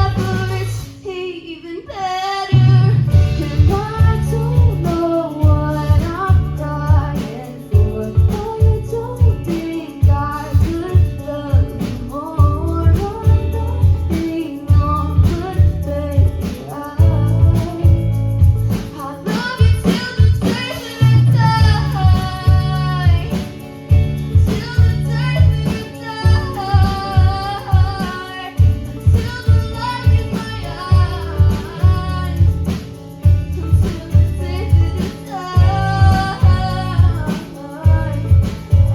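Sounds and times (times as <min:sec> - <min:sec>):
guitar with steady beat: 0:00.0 - 0:01.0, 0:02.5 - 0:38.9
woman singing: 0:00.0 - 0:38.9.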